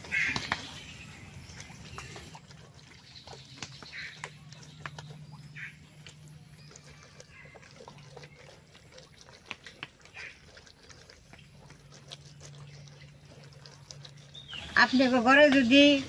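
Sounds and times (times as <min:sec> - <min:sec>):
wet squelches of pulp: 0:00.0 - 0:16.0
steady low hum: 0:00.2 - 0:16.0.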